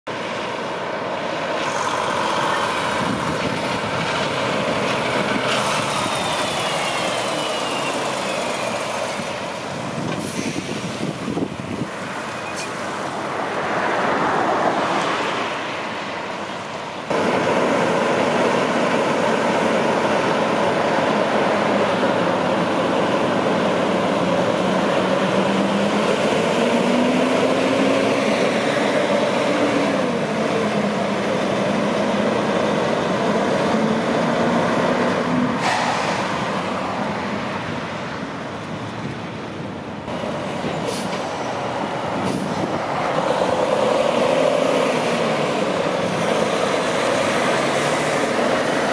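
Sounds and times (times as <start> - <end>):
diesel truck engine accelerating: 0.1 - 48.9
trucks driving past: 0.1 - 48.9.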